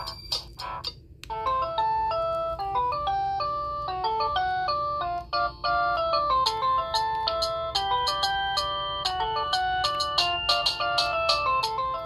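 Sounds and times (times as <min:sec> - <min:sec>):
polyphonic phone ringtone melody: 0:00.0 - 0:12.0.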